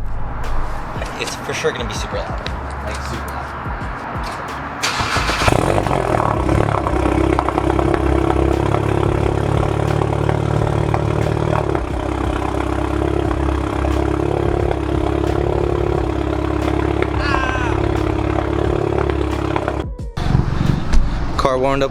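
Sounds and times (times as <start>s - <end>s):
car engine starting and idling: 0.0s - 21.9s.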